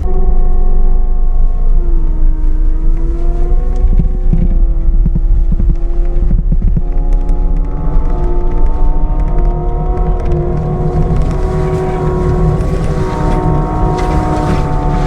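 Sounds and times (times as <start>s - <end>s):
mulcher machine whine and rumble: 0.0s - 15.0s.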